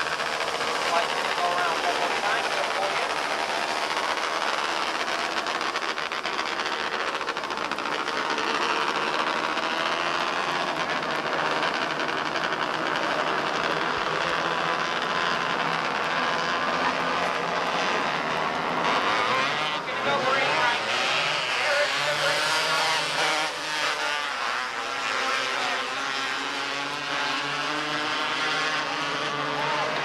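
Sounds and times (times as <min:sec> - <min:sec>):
race car engines droning: 0:00.0 - 0:30.0.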